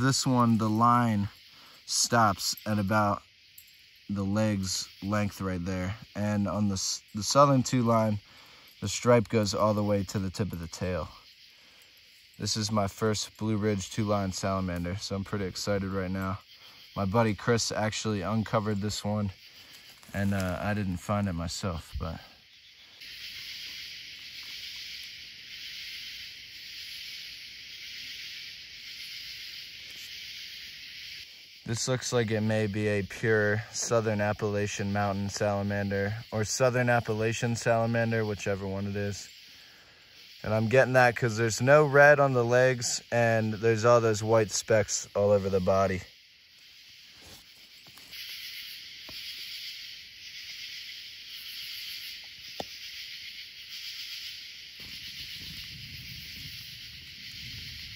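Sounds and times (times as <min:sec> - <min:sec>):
high-pitched hiss: 0:00.0 - 0:57.9
night insects chorus: 0:00.0 - 0:57.9.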